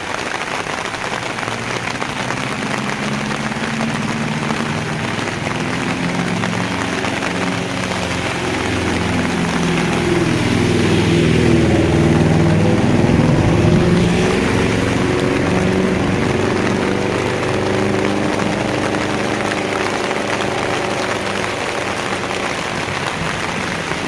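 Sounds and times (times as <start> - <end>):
heavy rain hissing: 0.0 - 24.0
vehicle engine running: 0.0 - 24.0.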